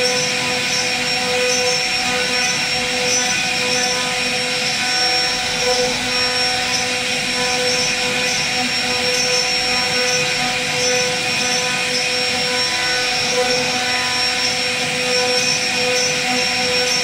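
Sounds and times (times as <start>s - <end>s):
cutter hissing through wood: 0.0s - 17.0s
router spindle whining: 0.0s - 17.0s.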